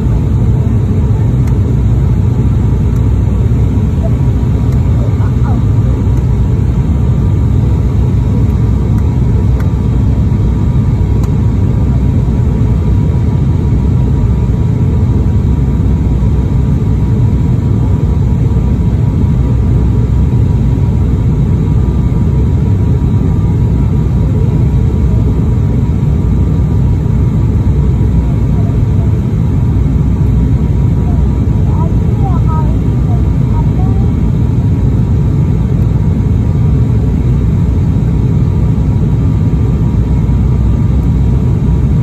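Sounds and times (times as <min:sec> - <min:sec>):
airplane cabin drone: 0:00.0 - 0:42.0.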